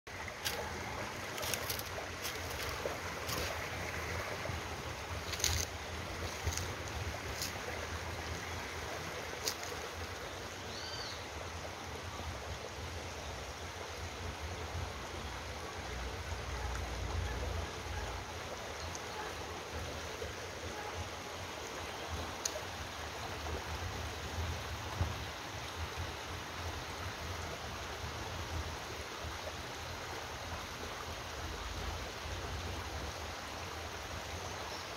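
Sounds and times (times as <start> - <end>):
forest stream rushing: 0.1 - 34.9.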